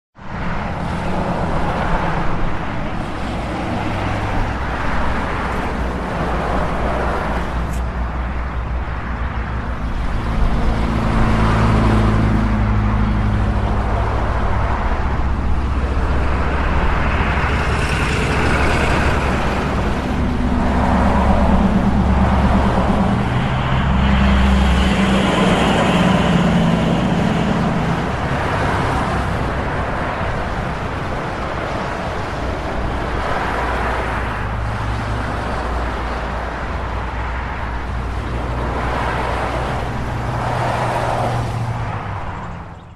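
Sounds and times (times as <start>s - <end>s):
street traffic hum: 0.2s - 42.9s.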